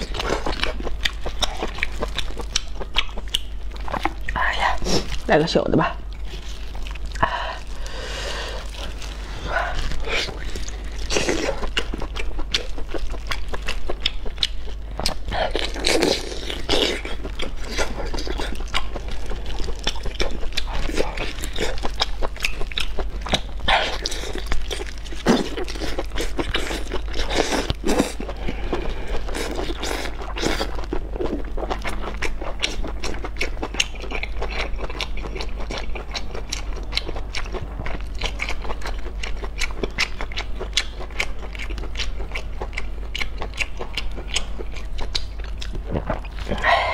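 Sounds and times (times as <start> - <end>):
low hum: 0.0 - 25.2, 26.0 - 46.9
close-miked chewing: 0.0 - 46.9.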